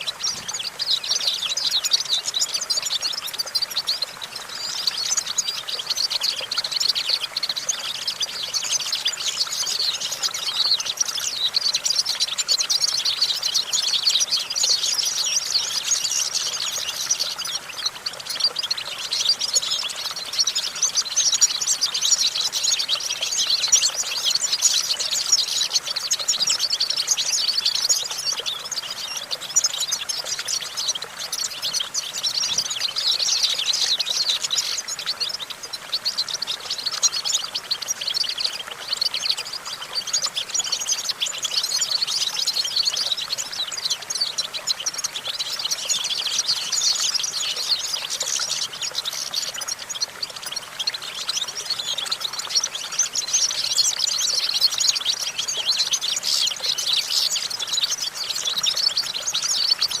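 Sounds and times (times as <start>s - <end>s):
finch twittering: 0.0s - 60.0s.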